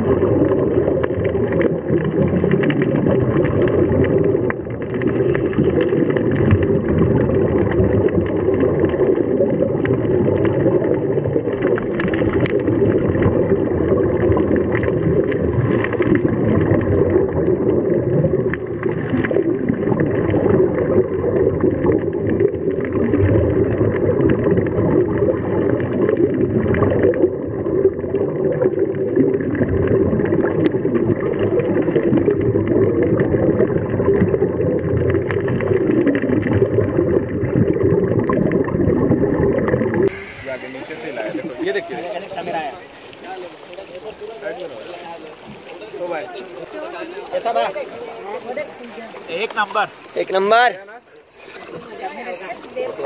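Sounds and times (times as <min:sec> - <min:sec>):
muffled underwater noise: 0:00.0 - 0:53.0
regulator bubbles: 0:00.0 - 0:53.0.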